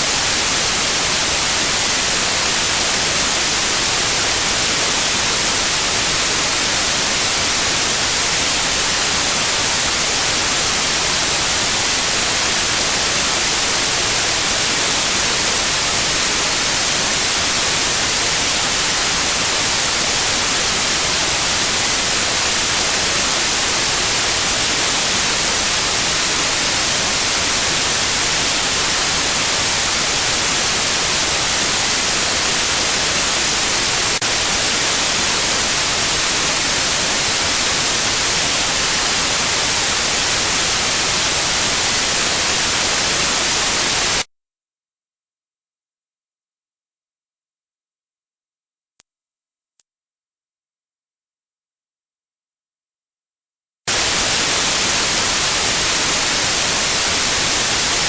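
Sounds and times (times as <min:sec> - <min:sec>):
white noise: 0:00.0 - 0:44.2, 0:53.9 - 0:58.0
steady high-pitched tone: 0:00.0 - 0:44.3, 0:53.9 - 0:58.0.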